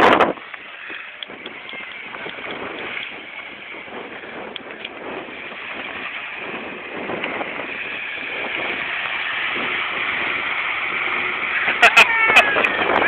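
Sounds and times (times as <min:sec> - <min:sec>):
off-road vehicle engine: 0:00.0 - 0:13.0.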